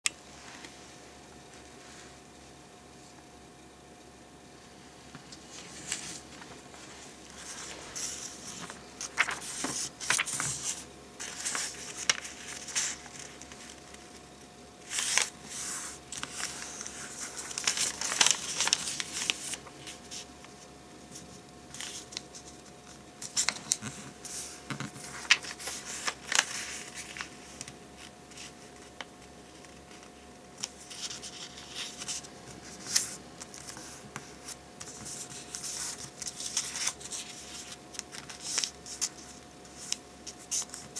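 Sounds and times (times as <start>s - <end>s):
paper rustling and crinkling: 5.2s - 14.2s, 14.8s - 40.9s
paper creasing strokes: 5.4s - 14.1s, 14.8s - 40.9s.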